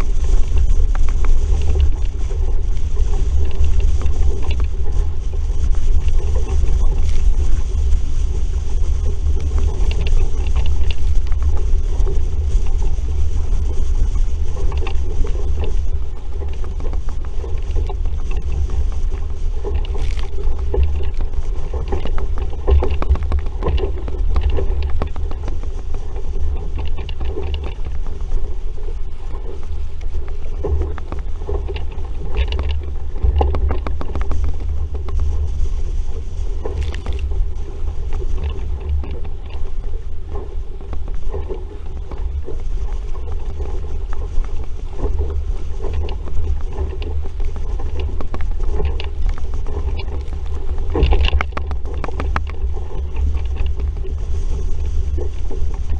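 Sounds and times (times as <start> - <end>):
water splashing against hull: 0.0 - 55.9
wind rumble on microphone: 0.0 - 55.9.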